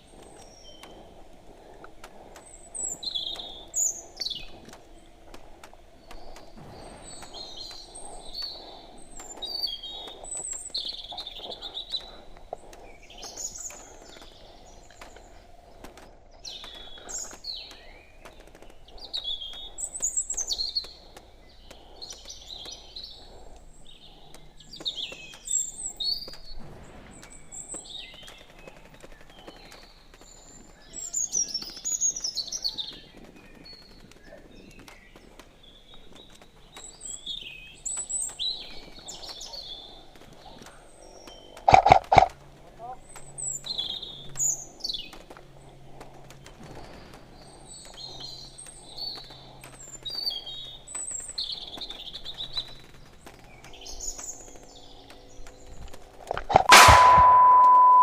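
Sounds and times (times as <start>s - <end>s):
songbirds chirping and singing: 0.0s - 57.7s
faint clicks: 0.0s - 58.0s.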